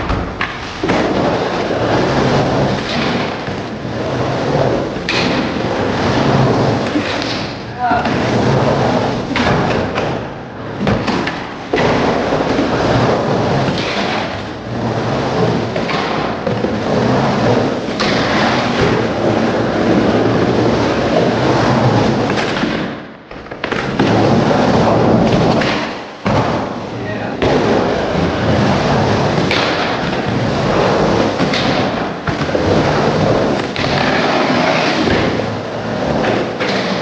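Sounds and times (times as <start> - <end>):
skateboard clacks: 0.0 - 37.0
skateboard wheels rolling on wood: 0.0 - 37.0.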